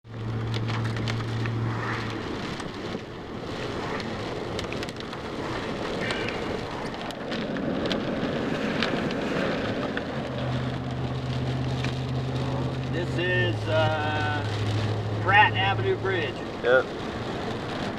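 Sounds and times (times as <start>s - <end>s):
low engine hum: 0.0s - 17.9s
heavy rain and wet road noise: 0.1s - 17.9s.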